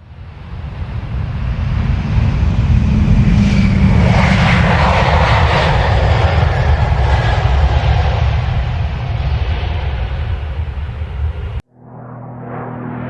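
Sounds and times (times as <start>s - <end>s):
jet aircraft flying past: 0.1s - 13.0s.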